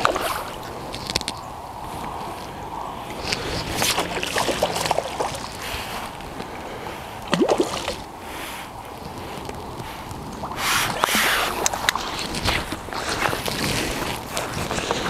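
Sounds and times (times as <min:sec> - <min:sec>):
water sloshing and splashing: 0:00.0 - 0:01.4, 0:03.1 - 0:08.2, 0:09.0 - 0:15.0.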